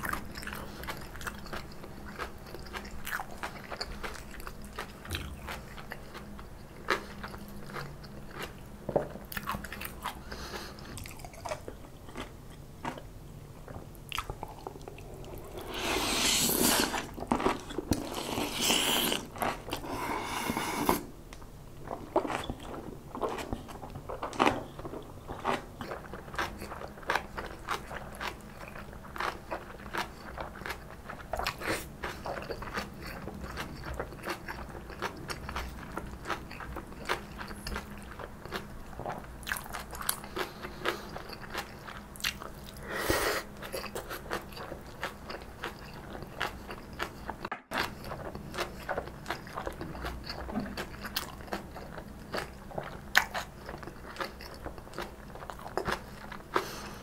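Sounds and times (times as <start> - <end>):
chewing crunchy food: 0.0 - 21.1, 21.8 - 57.0.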